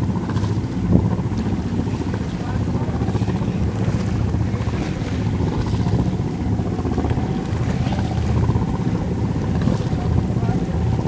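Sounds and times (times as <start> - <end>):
boat engine drone: 0.0 - 11.0
sea water wash: 0.0 - 11.0
wind on microphone: 0.0 - 11.0.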